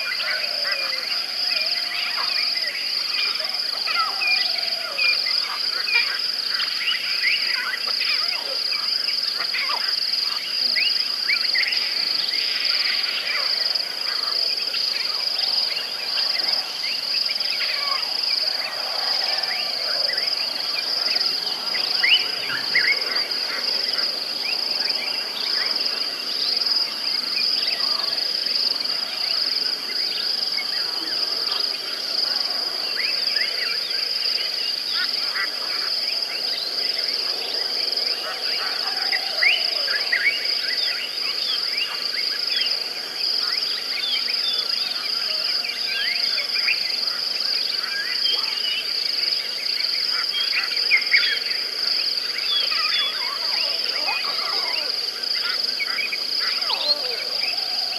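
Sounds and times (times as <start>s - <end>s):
insect chorus drone: 0.0s - 57.9s.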